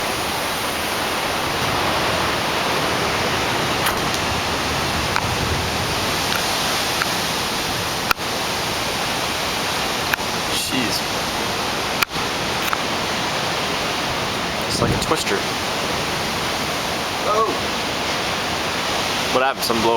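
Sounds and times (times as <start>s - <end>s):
heavy rain: 0.0s - 19.9s
wind: 0.0s - 19.9s.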